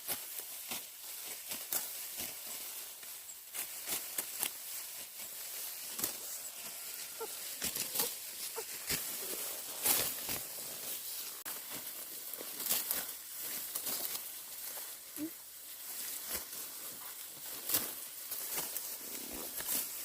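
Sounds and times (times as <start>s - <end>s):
rice stalks rustling and tearing: 0.0s - 20.0s.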